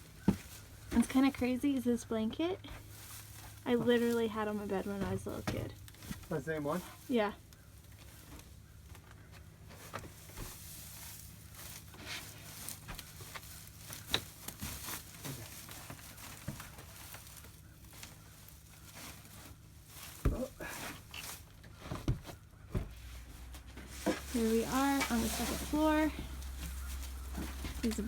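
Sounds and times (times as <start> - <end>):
rustling in hay and straw: 0.0 - 28.0.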